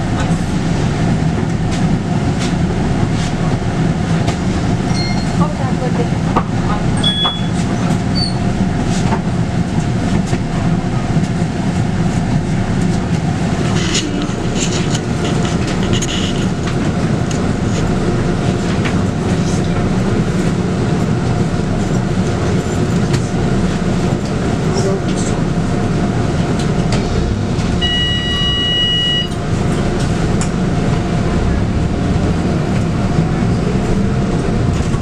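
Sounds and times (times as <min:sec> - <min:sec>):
bus diesel engine running: 0:00.0 - 0:35.0
road rumble: 0:00.0 - 0:35.0.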